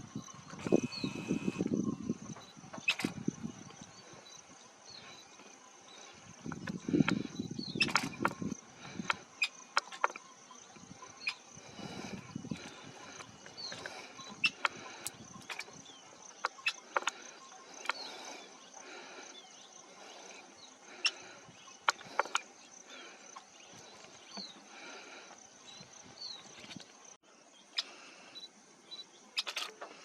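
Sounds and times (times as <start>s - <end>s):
insects humming: 0.0s - 30.0s.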